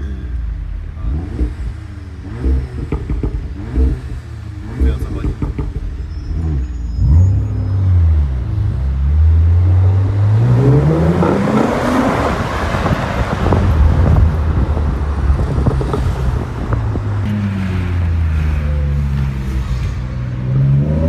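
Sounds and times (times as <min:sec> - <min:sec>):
car engine revving loud exhaust: 0:00.0 - 0:21.0.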